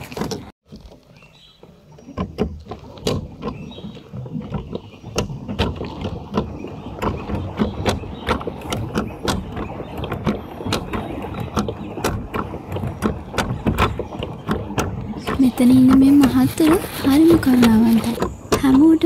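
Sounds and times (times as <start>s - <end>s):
pedal boat mechanism clicking: 0.0s - 19.0s.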